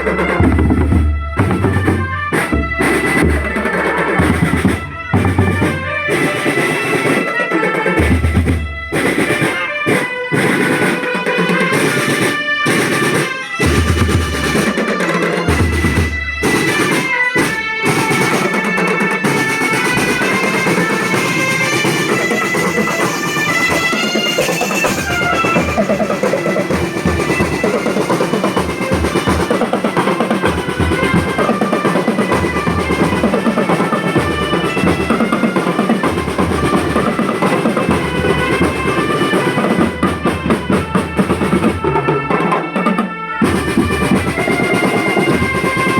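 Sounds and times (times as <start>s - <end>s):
held melodic notes: 0.0s - 42.8s
snare and bass drums: 0.0s - 45.9s.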